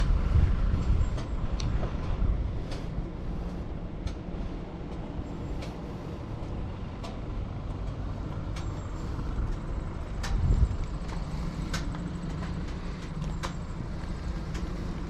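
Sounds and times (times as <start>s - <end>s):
engine knocking clicks: 0.0s - 4.3s, 4.9s - 15.0s
car engine rumble: 0.0s - 15.0s.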